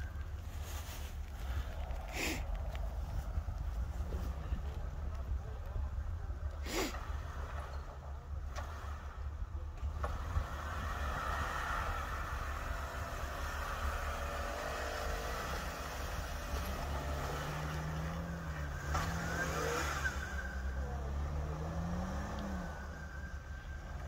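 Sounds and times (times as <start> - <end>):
engine pulling under load: 0.0 - 24.0.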